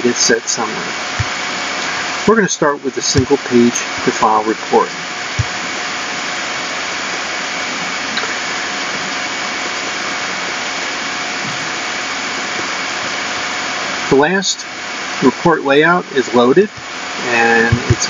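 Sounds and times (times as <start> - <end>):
faint constant hum: 0.0 - 18.0.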